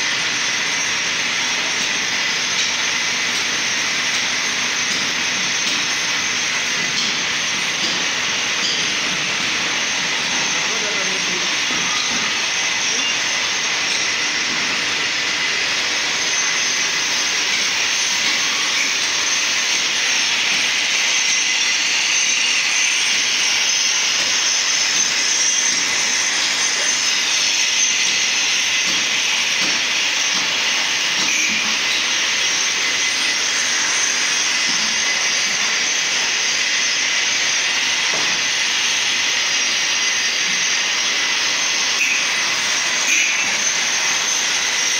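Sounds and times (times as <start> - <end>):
power tools grinding concrete: 0.0 - 44.9.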